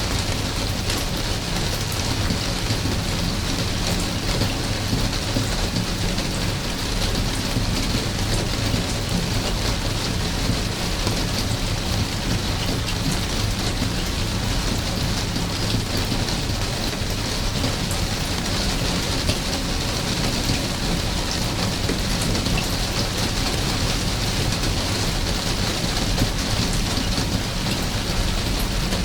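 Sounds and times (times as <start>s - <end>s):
steady rain hiss: 0.0s - 29.0s
raindrops ticking: 0.1s - 29.0s.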